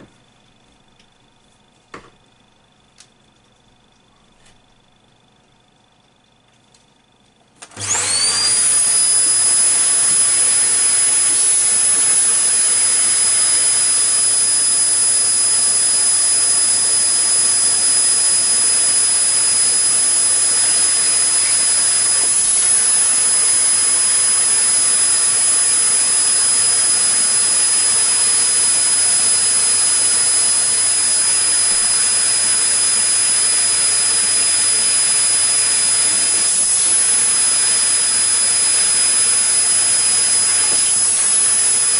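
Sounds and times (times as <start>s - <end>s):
electric motor whining: 7.7s - 41.9s.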